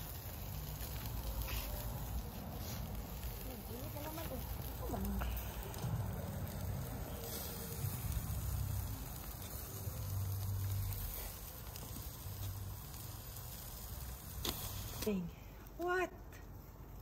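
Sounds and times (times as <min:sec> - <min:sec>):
low uneven rumble: 0:00.0 - 0:17.0
meat sizzling on charcoal grill: 0:00.0 - 0:17.0.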